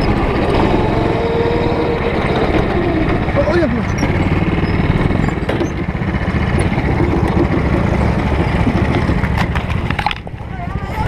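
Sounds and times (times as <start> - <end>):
go-kart engine idling: 0.0 - 11.0.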